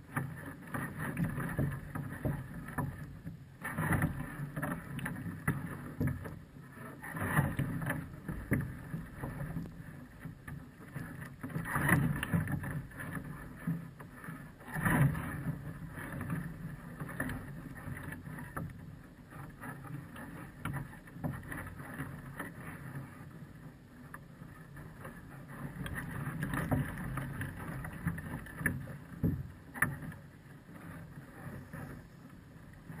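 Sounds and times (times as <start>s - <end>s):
waves lapping against platform: 0.0s - 33.0s.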